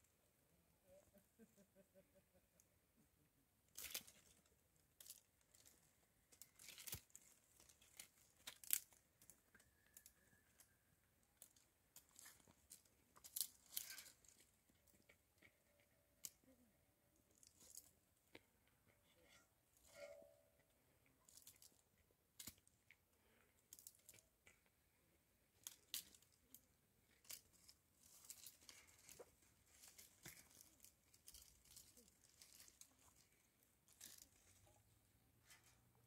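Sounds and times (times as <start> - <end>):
crackling and crumpling rustles: 3.6 - 36.0.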